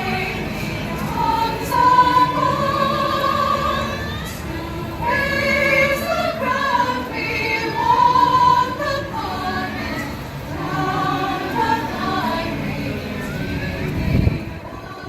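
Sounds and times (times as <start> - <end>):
choir singing sustained notes: 0.0 - 15.0.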